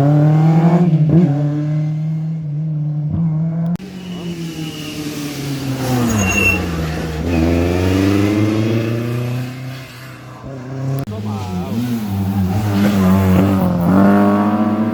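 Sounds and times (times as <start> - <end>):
rally car engine revving: 0.0 - 14.9.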